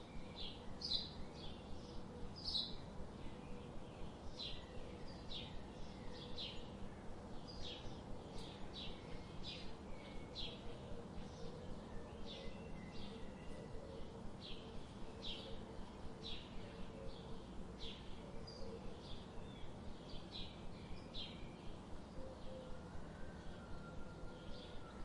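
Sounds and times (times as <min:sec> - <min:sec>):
small birds chirping: 0:00.0 - 0:22.2
low background hum: 0:00.0 - 0:25.0.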